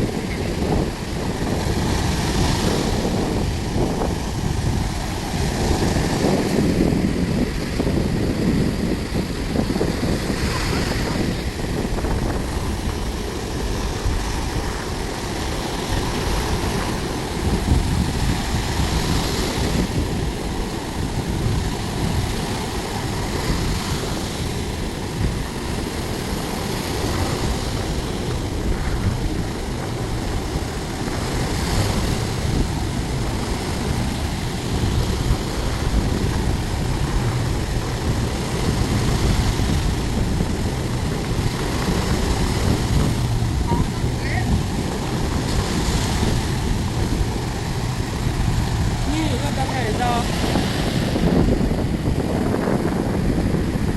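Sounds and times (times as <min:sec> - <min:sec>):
sea waves breaking on shore: 0:00.0 - 0:53.9
wind rumble on microphone: 0:00.0 - 0:53.9.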